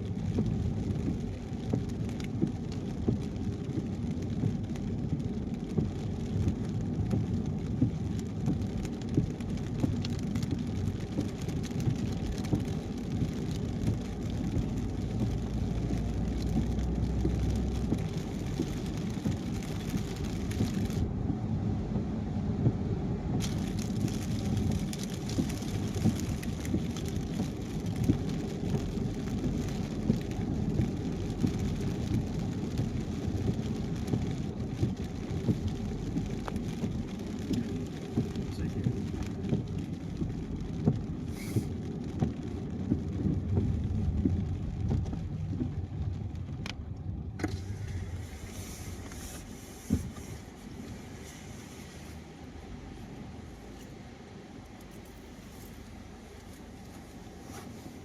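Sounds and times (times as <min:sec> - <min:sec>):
rain ticking on car: 0:00.0 - 0:58.0.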